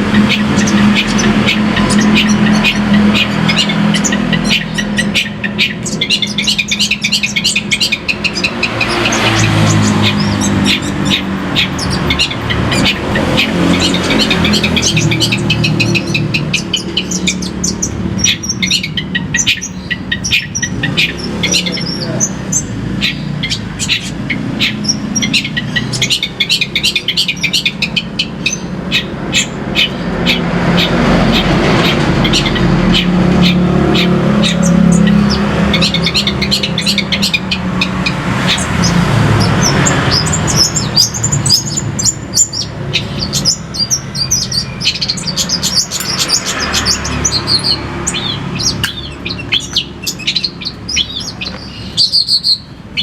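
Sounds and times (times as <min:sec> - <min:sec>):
songbird chirping and trilling: 0:00.0 - 0:53.0.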